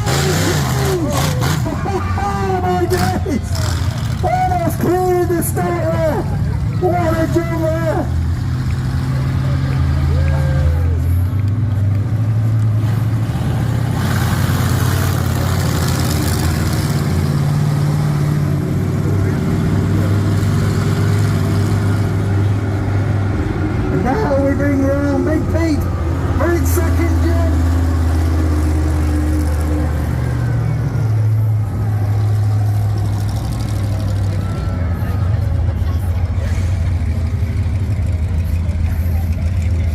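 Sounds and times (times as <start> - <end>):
truck engine running at low revs: 0.0 - 39.9.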